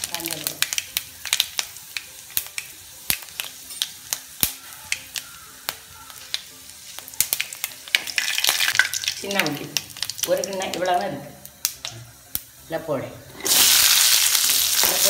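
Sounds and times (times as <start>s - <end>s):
seeds popping in hot oil: 0.0s - 12.7s, 13.3s - 15.0s
oil sizzling: 0.0s - 15.0s.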